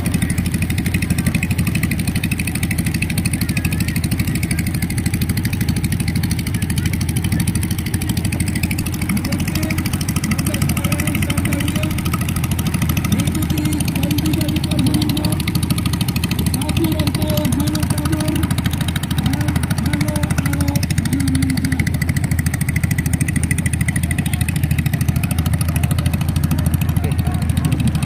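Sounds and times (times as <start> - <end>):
outboard motor running: 0.0 - 28.0.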